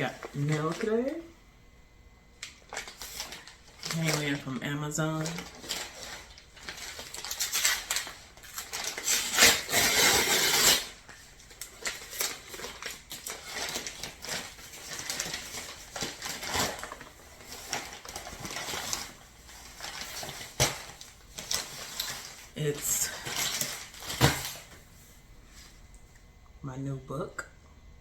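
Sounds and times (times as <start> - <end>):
packaging rustling: 0.0 - 1.3, 2.4 - 24.8.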